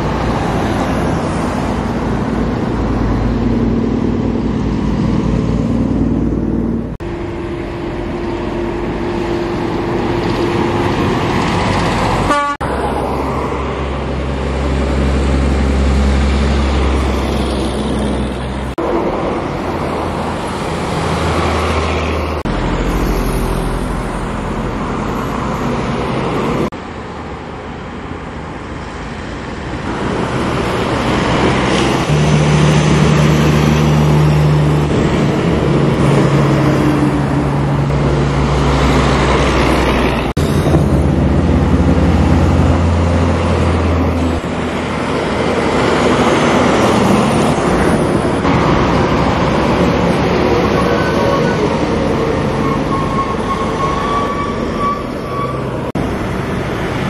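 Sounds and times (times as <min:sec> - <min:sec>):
diesel engines drone: 0:00.0 - 0:57.0.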